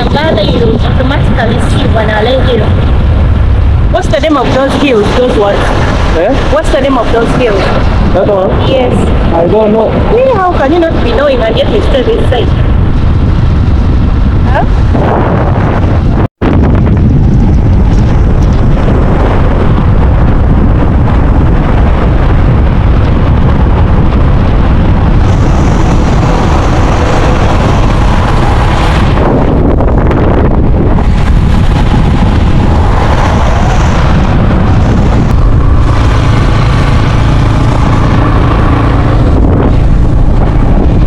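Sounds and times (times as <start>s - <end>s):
motorcycle engine running: 0.0s - 41.0s
wind buffeting microphone: 0.0s - 41.0s.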